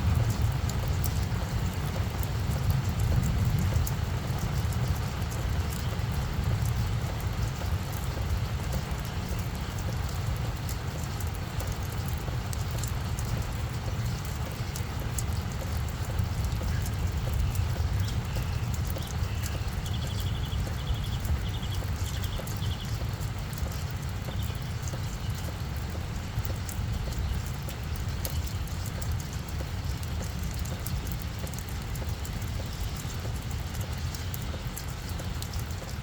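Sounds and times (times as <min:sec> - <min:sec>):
rain drops ticking: 0:00.0 - 0:36.0.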